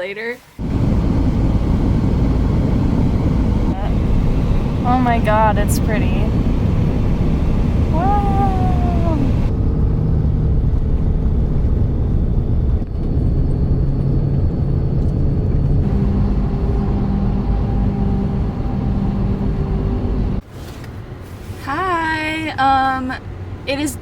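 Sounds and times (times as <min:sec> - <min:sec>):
vehicle road and engine rumble: 0:00.1 - 0:24.0.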